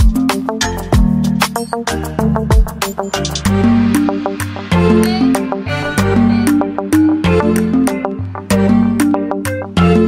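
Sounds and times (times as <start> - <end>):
afrobeat music with bass: 0.0 - 10.0.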